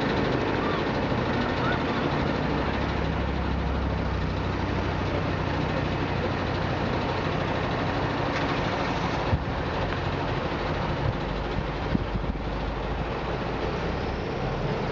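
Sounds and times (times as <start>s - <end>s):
steam train rumble: 0.0s - 14.9s.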